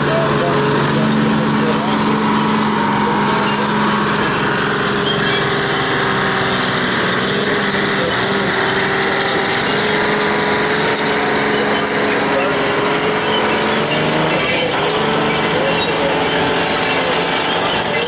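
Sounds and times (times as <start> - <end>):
tractor engines running: 0.0 - 18.0.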